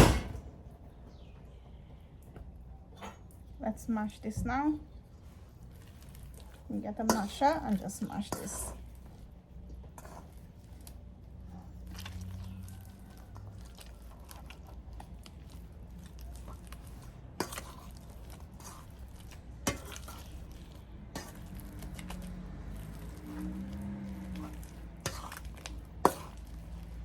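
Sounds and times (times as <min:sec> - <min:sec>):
cassava mashing squishing: 0:05.0 - 0:27.0.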